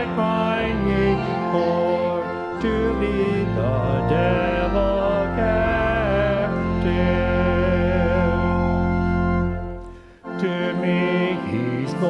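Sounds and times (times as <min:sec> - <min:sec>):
hymn singing with accompaniment: 0:00.0 - 0:12.0.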